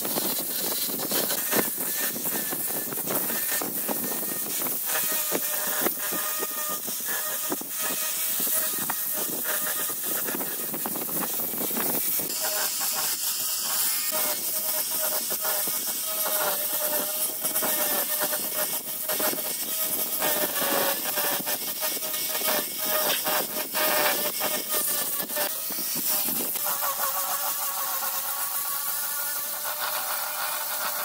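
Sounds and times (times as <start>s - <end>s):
angle grinder whine: 0.0s - 31.0s
sanding drum hissing on wood: 0.0s - 31.0s.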